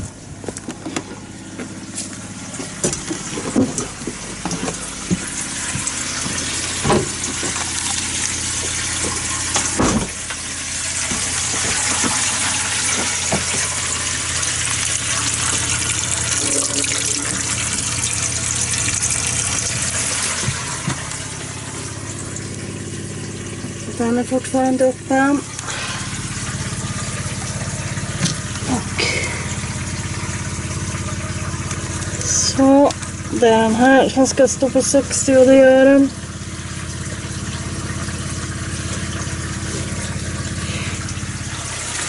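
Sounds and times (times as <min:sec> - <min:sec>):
water pump humming: 0:00.0 - 0:42.0
water rushing through pipes: 0:00.0 - 0:42.0.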